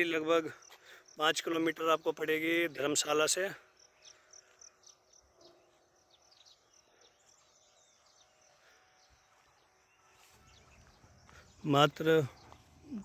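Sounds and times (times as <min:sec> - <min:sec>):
insects and birds chirping: 0:00.0 - 0:13.0.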